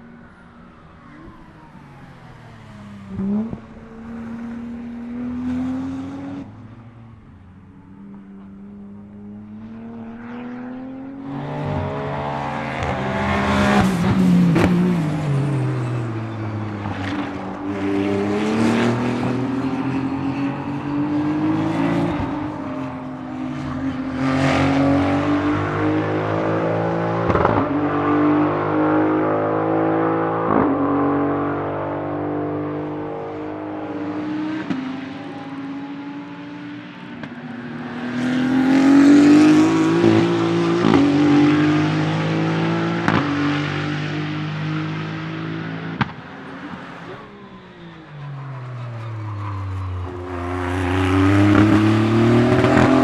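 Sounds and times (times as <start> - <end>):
racing engine accelerating: 9.1 - 53.0.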